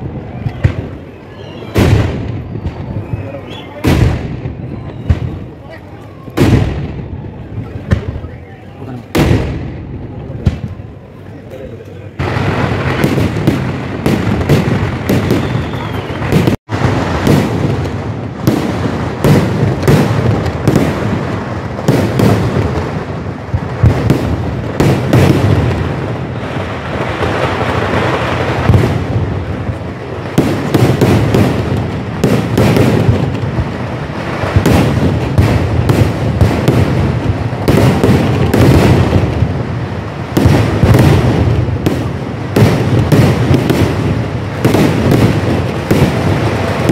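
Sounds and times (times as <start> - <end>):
fireworks bangs and crackles: 0.0 - 46.9.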